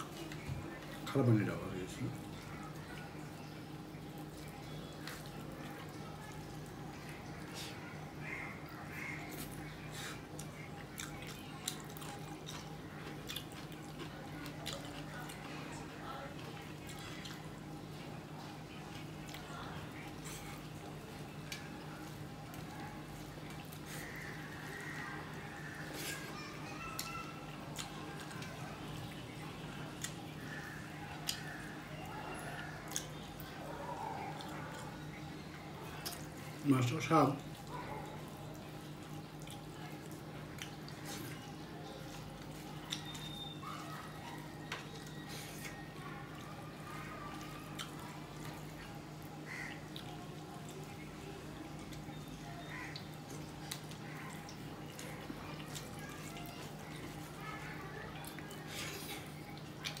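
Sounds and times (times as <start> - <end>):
chewing: 0.0 - 60.0.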